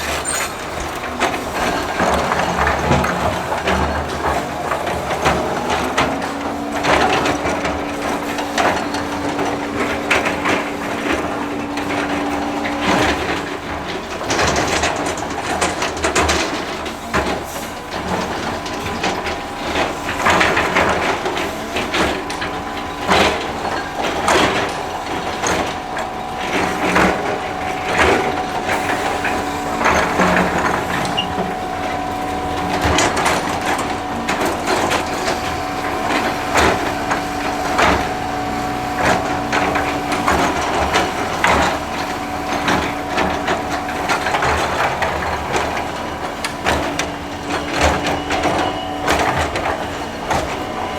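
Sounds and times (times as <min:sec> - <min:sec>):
excavator engine humming: 0:00.0 - 0:50.9.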